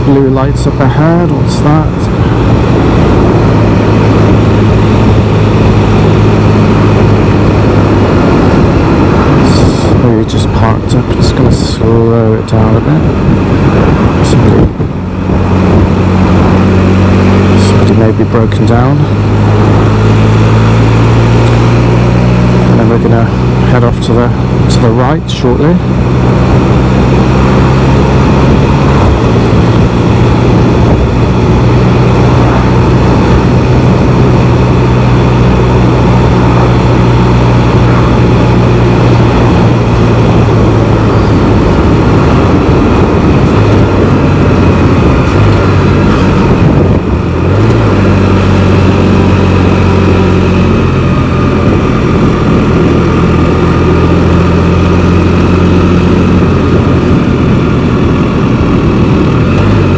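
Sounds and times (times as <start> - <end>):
motorcycle engine running: 0.0 - 59.9
wind and road rush: 0.0 - 59.9.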